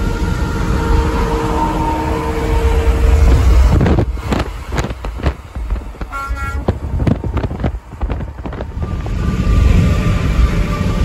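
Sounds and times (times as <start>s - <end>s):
highway road rumble: 0.0s - 11.0s
wind buffeting microphone: 0.0s - 11.0s.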